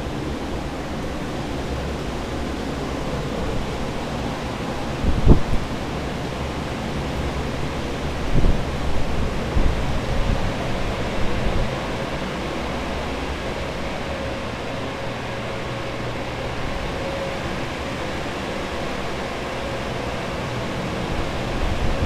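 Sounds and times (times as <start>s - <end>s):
faint steady hum: 0.0s - 22.0s
fans rushing steadily: 0.0s - 22.0s.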